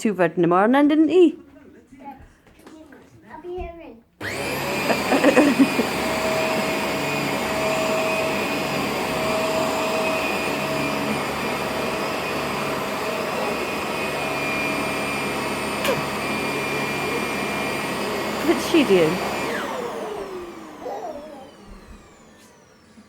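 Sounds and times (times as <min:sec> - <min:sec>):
vacuum cleaner running: 0:04.2 - 0:23.0.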